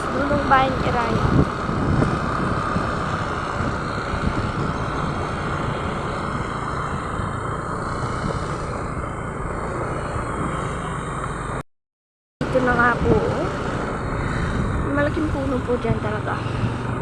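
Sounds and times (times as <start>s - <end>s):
motorcycle engine riding: 0.0s - 11.6s, 12.4s - 17.0s
road noise: 0.0s - 11.6s, 12.4s - 17.0s.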